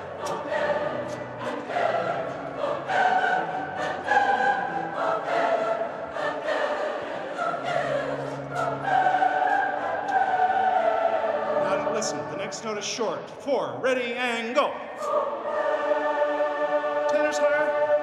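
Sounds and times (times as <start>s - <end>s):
large choir singing: 0.0s - 13.1s, 14.3s - 18.0s.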